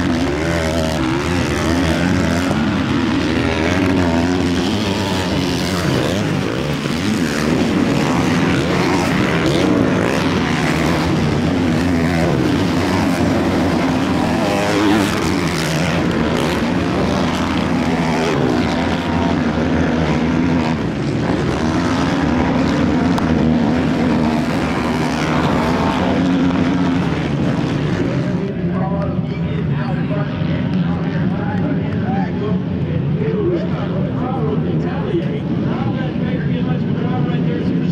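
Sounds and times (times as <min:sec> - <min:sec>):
motocross bikes revving: 0:00.0 - 0:37.9.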